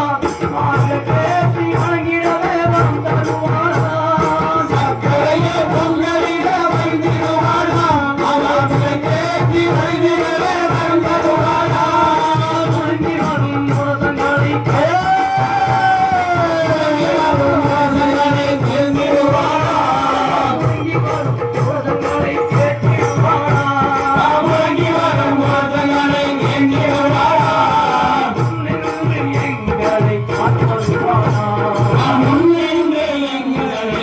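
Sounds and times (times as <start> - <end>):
rhythmic percussion beat: 0.0 - 34.0
voices singing gliding melody: 0.3 - 34.0.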